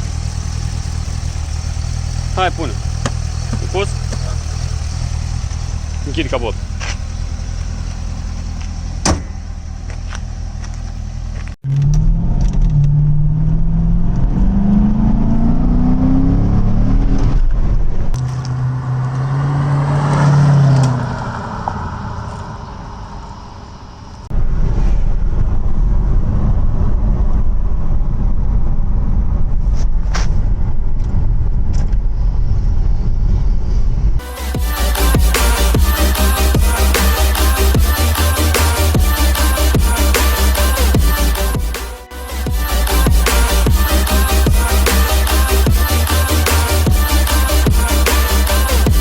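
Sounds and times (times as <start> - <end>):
car engine accelerating hard: 0.0 - 24.4, 25.3 - 49.0
road and wind noise rumble: 0.0 - 49.0.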